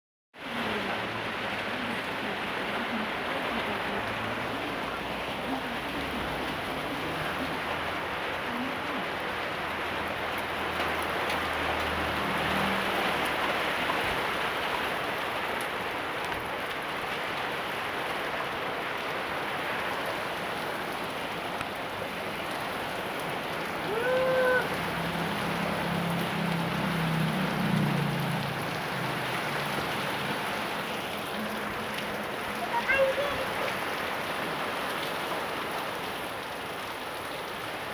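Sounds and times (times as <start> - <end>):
heavy rain falling: 0.4 - 37.9.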